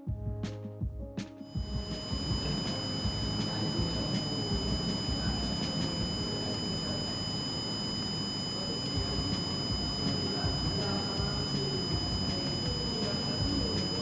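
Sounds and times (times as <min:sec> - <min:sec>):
piezo buzzer high-pitched tone: 0:01.6 - 0:14.0.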